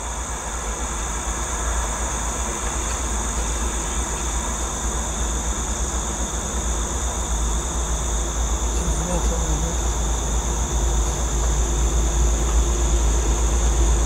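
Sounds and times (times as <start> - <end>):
distant train rumble: 0.0 - 14.0
insects droning: 0.0 - 14.0.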